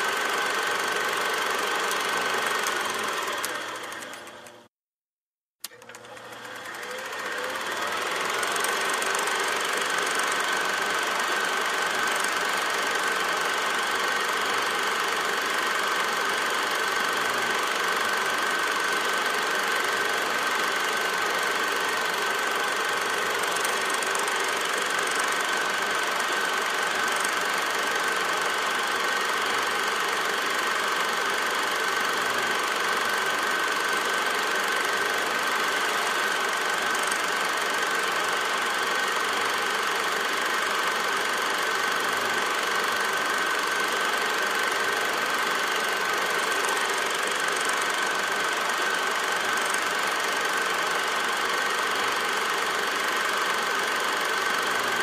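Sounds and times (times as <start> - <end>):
film projector whirring: 0.0 - 4.7, 5.6 - 55.0.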